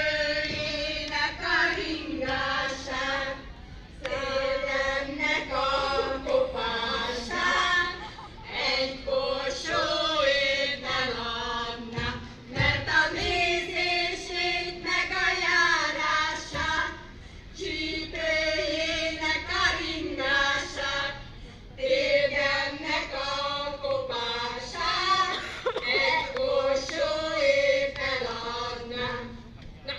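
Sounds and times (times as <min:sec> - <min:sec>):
women singing together: 0:00.0 - 0:29.9.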